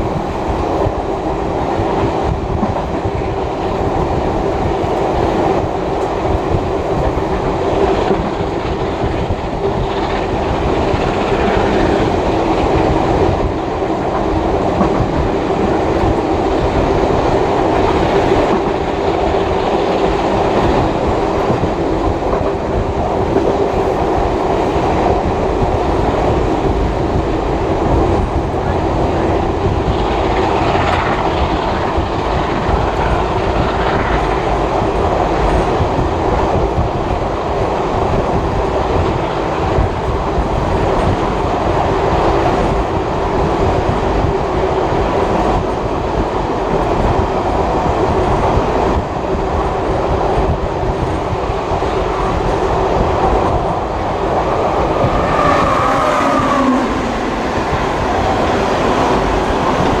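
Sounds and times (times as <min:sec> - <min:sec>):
train wheels clickety-clack: 0:00.0 - 1:00.0.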